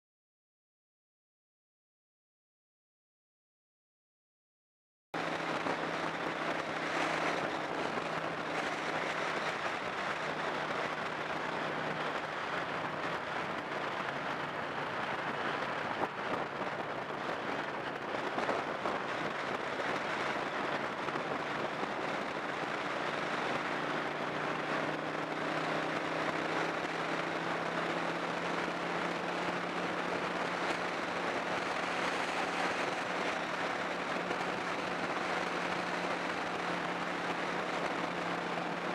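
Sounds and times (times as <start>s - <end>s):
low engine hum: 5.2s - 38.9s
tyre and wind noise: 5.2s - 38.9s.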